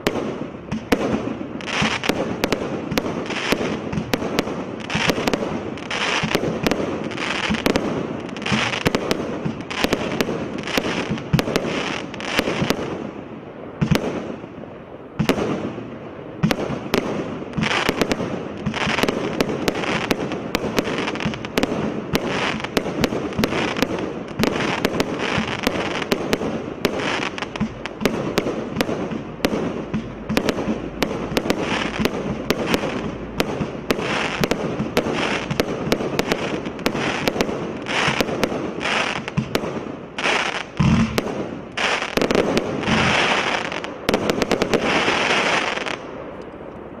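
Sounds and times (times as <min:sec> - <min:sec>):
firework bangs and crackle: 0:00.0 - 0:47.0.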